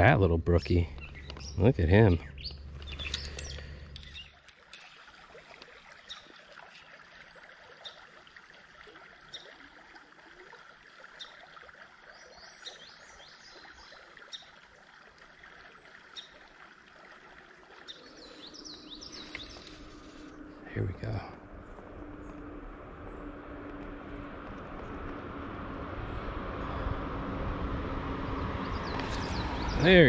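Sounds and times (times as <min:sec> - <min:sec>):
creek flowing over stones: 0:00.0 - 0:26.2, 0:28.5 - 0:30.0.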